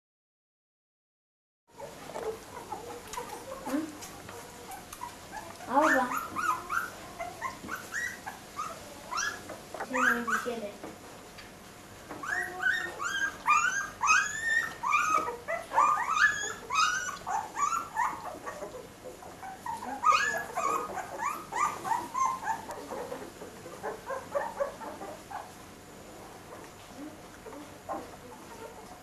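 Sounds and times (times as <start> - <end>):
puppies whimpering and squeaking: 1.8 - 10.9, 12.0 - 29.0.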